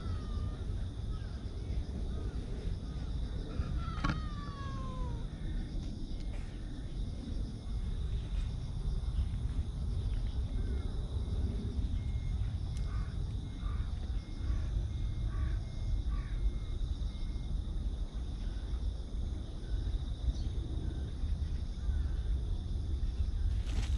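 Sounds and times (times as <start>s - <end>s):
steady low rumble: 0.0s - 23.9s.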